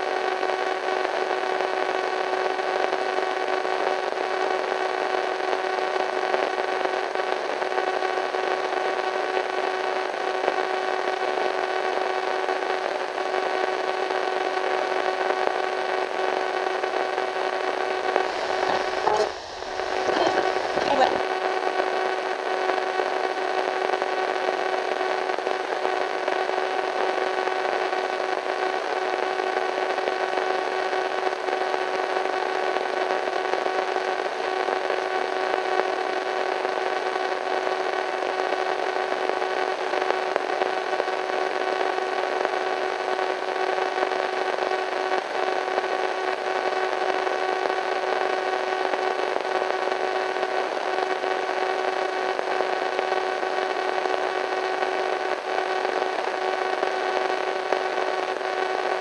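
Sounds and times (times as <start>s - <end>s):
radio static hiss: 0.1s - 59.0s.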